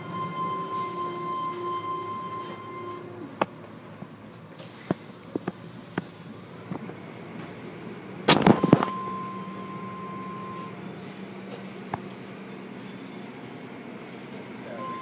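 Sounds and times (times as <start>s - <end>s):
car wash machinery humming: 0.0s - 15.0s.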